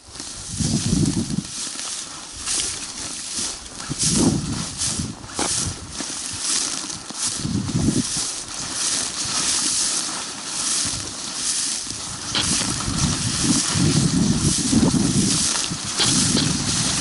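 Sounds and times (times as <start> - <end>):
branches and leaves swishing: 0.0 - 17.0
footsteps through shrubs: 0.0 - 17.0.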